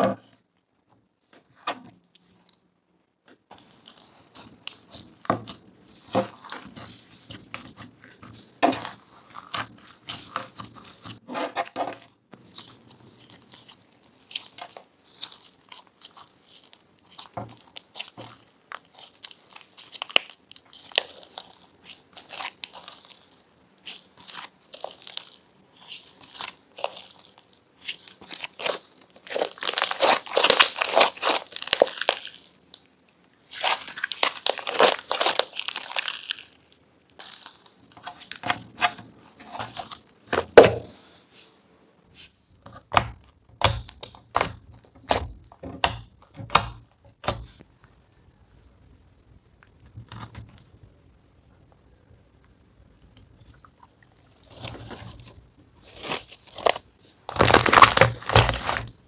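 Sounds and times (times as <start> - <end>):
crunching and crackling: 0.0 - 41.1, 42.1 - 59.0.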